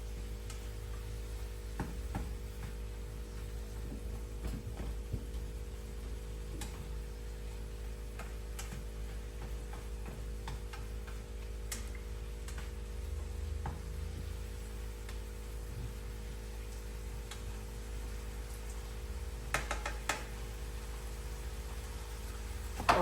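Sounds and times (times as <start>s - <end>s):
vegetables crackling in a frying pan: 0.0s - 23.0s.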